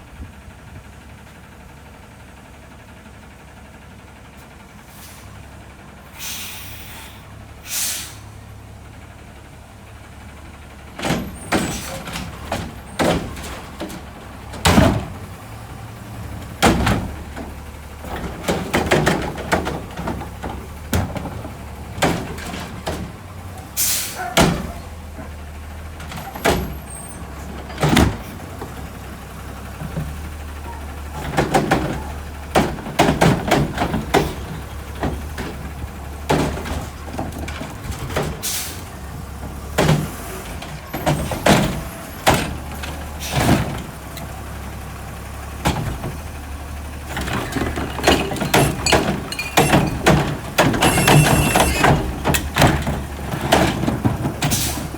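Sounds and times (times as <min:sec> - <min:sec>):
garbage truck engine rumbling: 0:00.0 - 0:54.9
metal bangs and clanks: 0:10.9 - 0:54.9.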